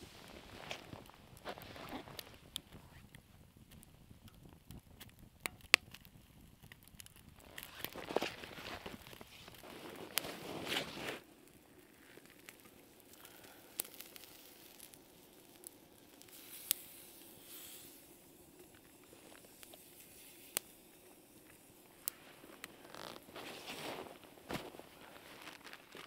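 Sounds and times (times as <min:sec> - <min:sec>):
campfire crackling: 0:00.0 - 0:26.0
fire popping: 0:00.0 - 0:26.0
soft hiss: 0:00.0 - 0:26.0.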